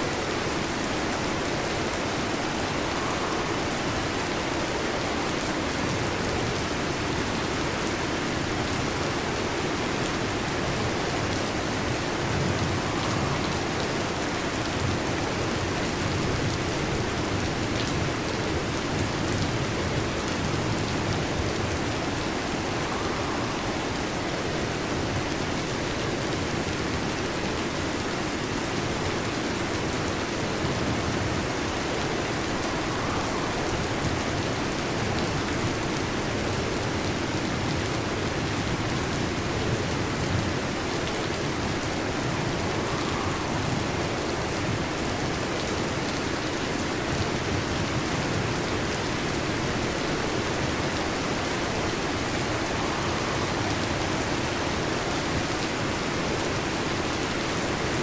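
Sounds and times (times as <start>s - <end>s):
heavy rain on a metal roof: 0.0s - 58.0s.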